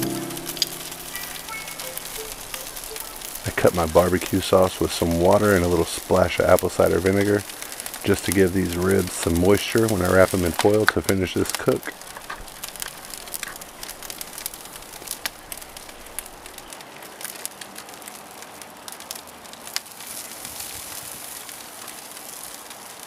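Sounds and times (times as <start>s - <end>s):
charcoal fire crackling and sizzling: 0.0s - 23.0s.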